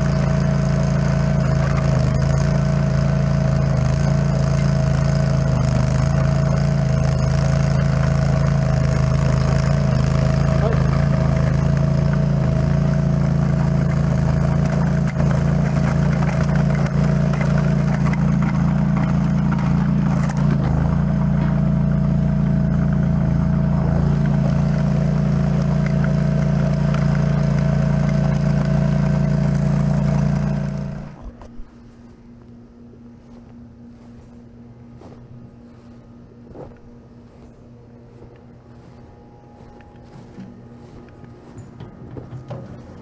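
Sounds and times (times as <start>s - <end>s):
trencher engine running: 0.0s - 32.5s, 33.2s - 43.0s.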